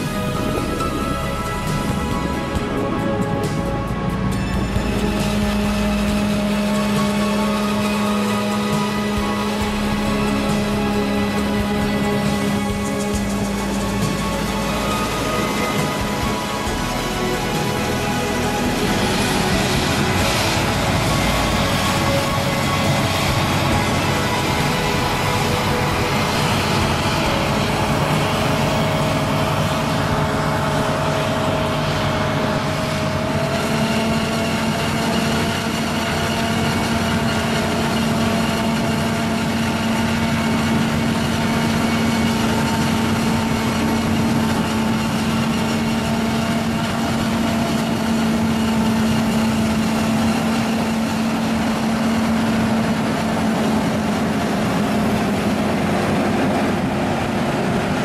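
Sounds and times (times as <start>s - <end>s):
tractor engine: 0.0s - 58.0s.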